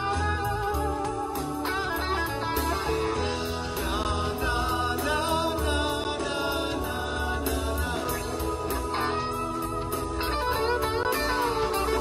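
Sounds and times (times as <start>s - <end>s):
electric guitars: 0.0s - 12.0s
live rock band playing: 0.0s - 12.0s.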